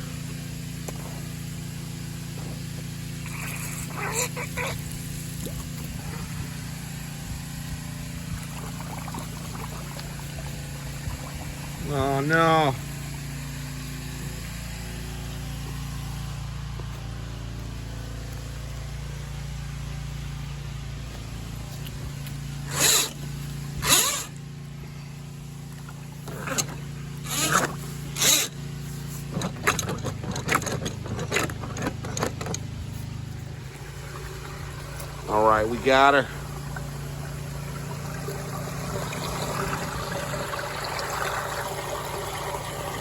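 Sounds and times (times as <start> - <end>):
drain cleaning machine motor: 0.0 - 18.8, 21.0 - 24.8, 25.5 - 43.0.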